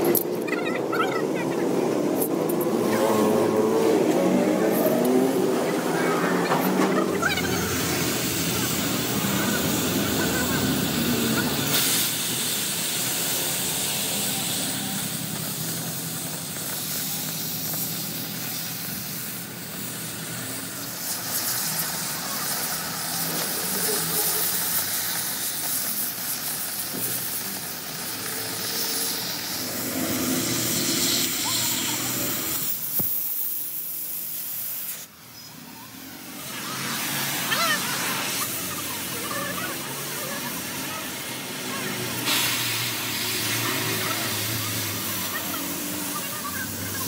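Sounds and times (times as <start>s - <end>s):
cutting torch hissing: 0.0s - 47.0s.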